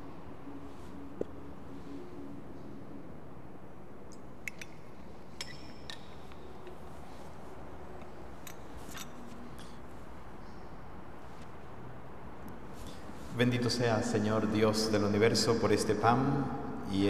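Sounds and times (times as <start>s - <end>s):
low room hiss: 0.0s - 17.0s.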